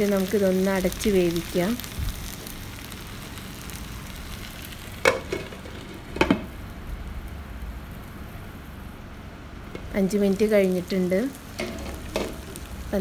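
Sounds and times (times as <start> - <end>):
chicken sizzling in a pan: 0.0 - 8.9, 9.7 - 13.0.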